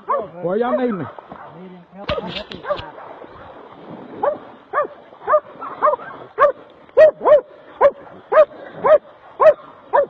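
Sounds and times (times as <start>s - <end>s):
dog barking: 0.0s - 3.2s, 4.2s - 10.0s.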